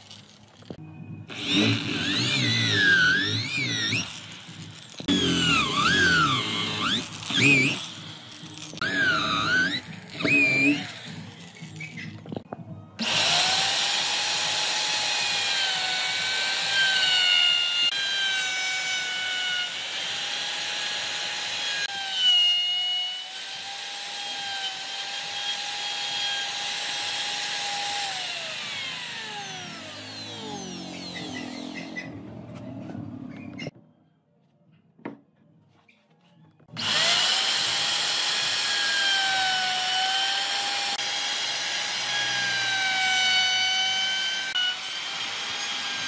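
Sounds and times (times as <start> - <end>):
electric power tool whining: 0.0 - 33.7, 36.7 - 46.0.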